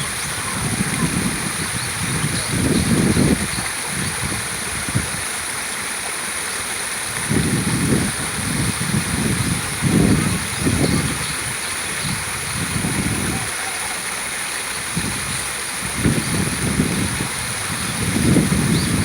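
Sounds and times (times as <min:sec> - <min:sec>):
small waterfall rushing: 0:00.0 - 0:19.0.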